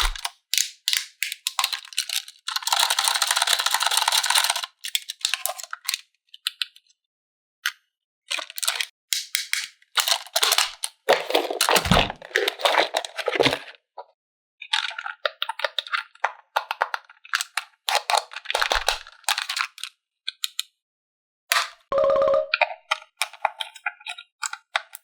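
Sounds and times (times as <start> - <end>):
plastic packaging crinkling and clicking: 0.0 - 6.9, 8.3 - 13.8, 14.6 - 20.7, 22.9 - 25.0.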